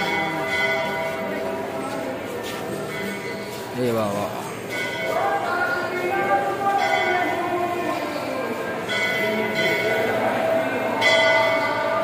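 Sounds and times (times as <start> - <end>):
faint crowd voices: 0.0 - 12.0
temple bell ringing: 0.0 - 12.0.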